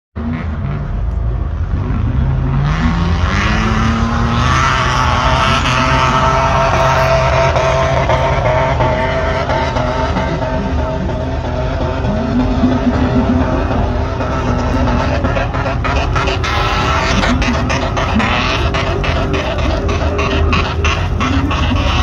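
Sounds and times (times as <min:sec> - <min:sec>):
continuous noisy hum: 0:00.2 - 0:22.0
racing engine revving: 0:00.2 - 0:22.0.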